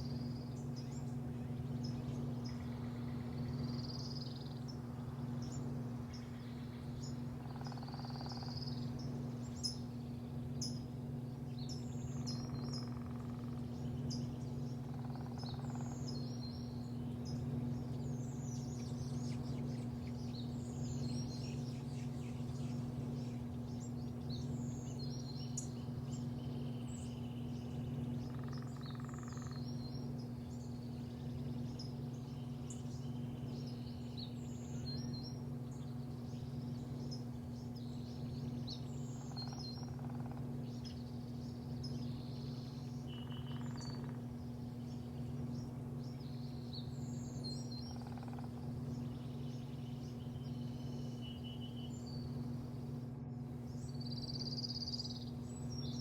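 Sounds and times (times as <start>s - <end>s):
low mechanical hum: 0.0s - 56.0s
small birds chirping: 0.0s - 56.0s.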